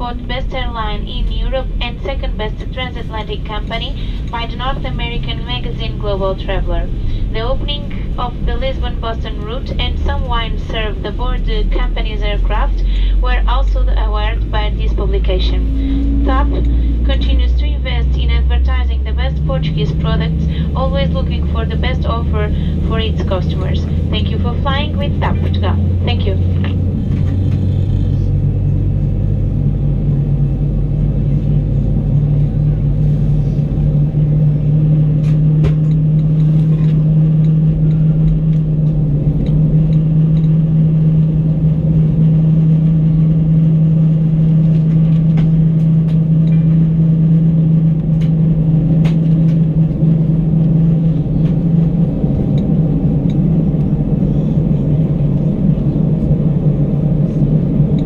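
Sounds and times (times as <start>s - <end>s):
airliner engines in cabin rumbling: 0.0s - 58.0s.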